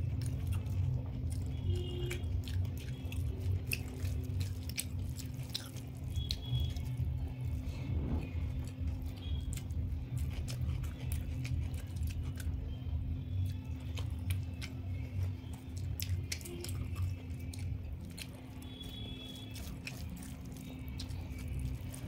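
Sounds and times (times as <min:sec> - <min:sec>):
chewing: 0:00.0 - 0:07.8, 0:08.4 - 0:12.7, 0:13.3 - 0:22.0
steady low hum: 0:00.0 - 0:22.0.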